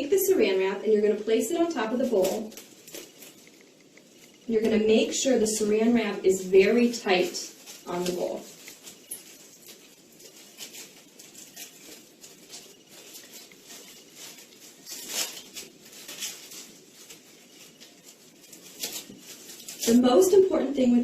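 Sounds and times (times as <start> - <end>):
cling wrap crinkling: 0.0 - 21.0.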